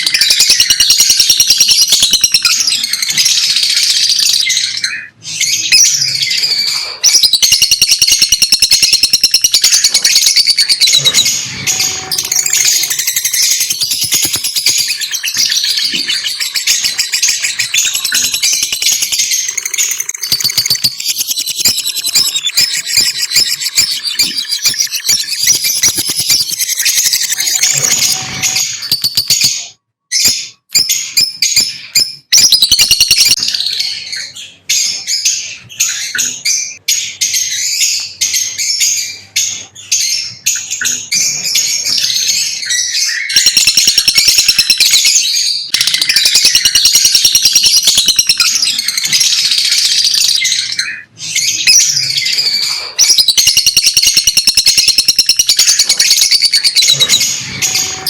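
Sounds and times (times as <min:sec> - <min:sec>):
lovebirds chattering: 0:00.0 - 0:58.0.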